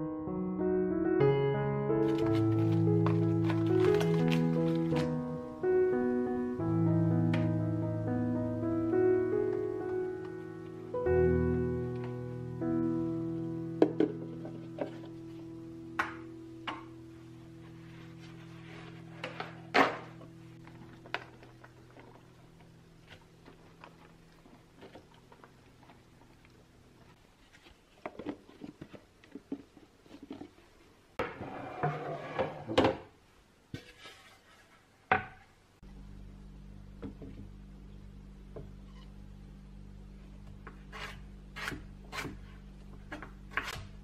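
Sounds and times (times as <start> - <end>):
low steady hum: 2.1 - 31.4, 35.5 - 44.0.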